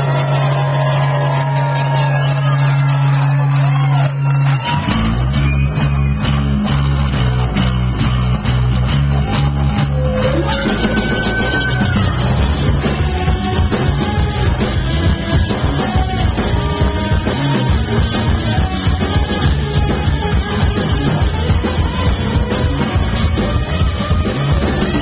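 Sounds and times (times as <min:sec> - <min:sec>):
live rock band playing: 0:01.6 - 0:25.0.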